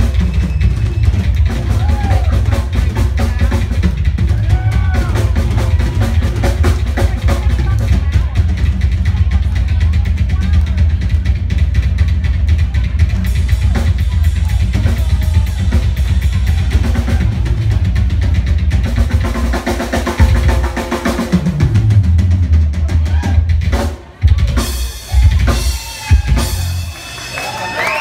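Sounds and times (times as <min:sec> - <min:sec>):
rock drum solo: 0:00.0 - 0:28.0.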